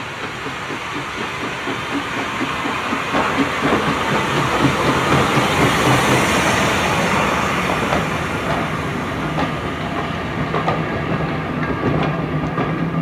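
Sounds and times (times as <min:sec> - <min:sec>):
train rumble: 0:00.0 - 0:13.0
train wheels clicking over rail joints: 0:00.0 - 0:13.0.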